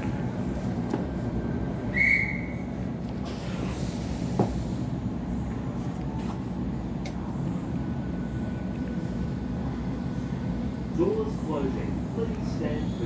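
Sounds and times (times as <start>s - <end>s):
train carriage rumble: 0.0s - 13.0s.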